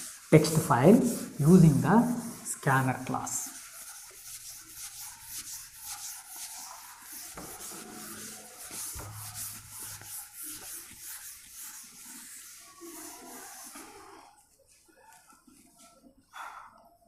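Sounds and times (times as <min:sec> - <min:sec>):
duster rubbing on chalkboard: 0:00.0 - 0:15.7.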